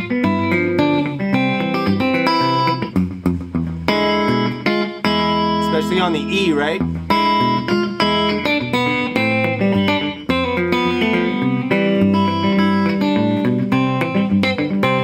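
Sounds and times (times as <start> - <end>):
electric guitar fingerpicking: 0.0 - 15.0.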